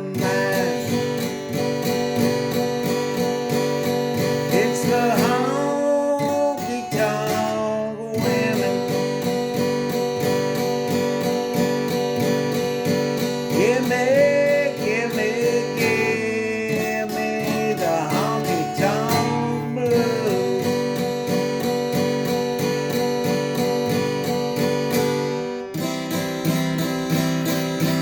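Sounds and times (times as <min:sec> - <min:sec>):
sliding guitar lead notes: 0:00.0 - 0:28.0
strummed acoustic guitar: 0:00.0 - 0:28.0.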